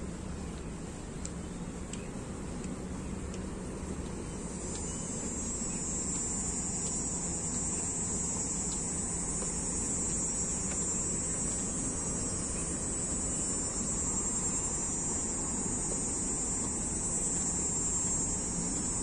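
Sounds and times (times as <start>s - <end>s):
constant high hiss: 0.0s - 19.0s
distant traffic rumble: 0.0s - 19.0s.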